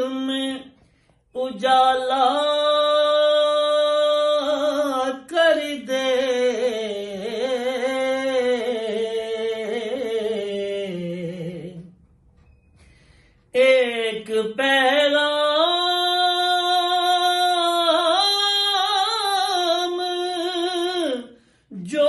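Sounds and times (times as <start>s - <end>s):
man singing unaccompanied: 0.0s - 12.0s, 13.5s - 22.0s.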